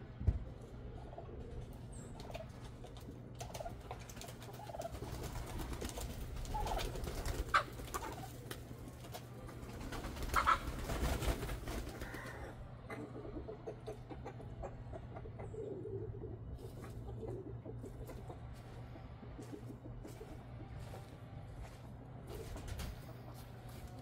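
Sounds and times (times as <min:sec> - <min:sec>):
chickens and turkeys clucking: 0:00.0 - 0:24.0.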